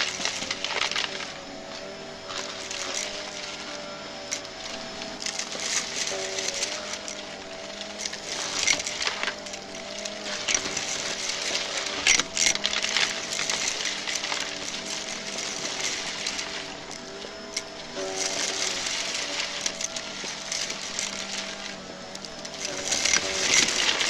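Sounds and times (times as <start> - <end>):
debris crackling in vacuum: 0.0 - 24.0
vacuum cleaner running: 0.0 - 24.0.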